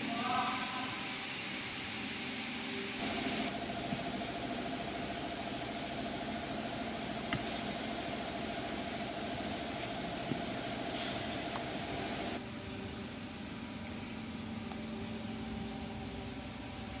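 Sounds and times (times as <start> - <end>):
thin high whine: 0.0 - 9.1, 10.0 - 17.0
machinery hum and hiss: 0.0 - 17.0.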